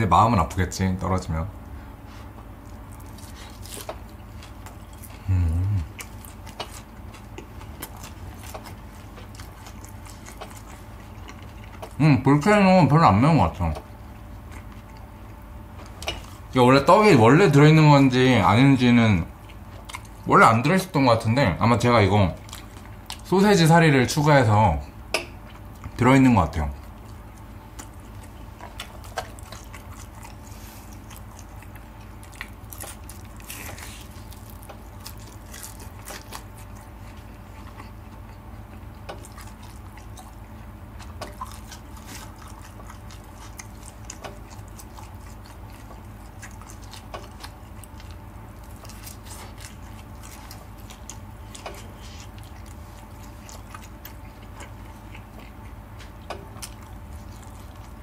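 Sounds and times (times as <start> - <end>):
chewing and biting chicken: 0.4 - 58.0.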